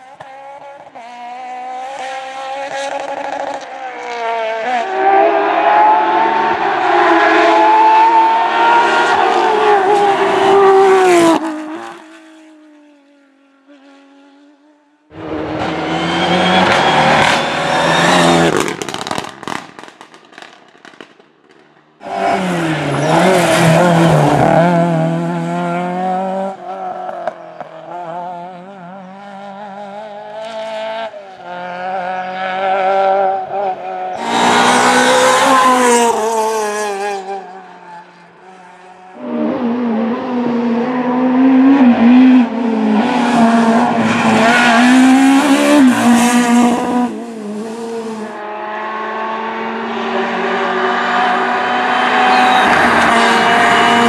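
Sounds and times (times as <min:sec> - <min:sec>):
rally car engines at speed: 0:00.0 - 0:54.0.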